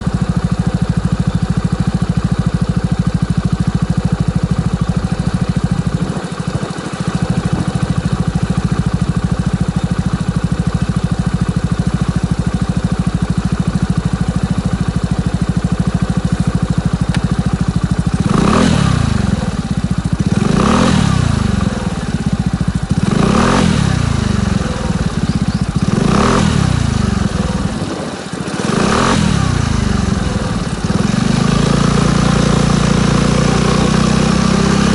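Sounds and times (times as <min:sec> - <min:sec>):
scooter engine idling and revving: 0:00.0 - 0:34.9.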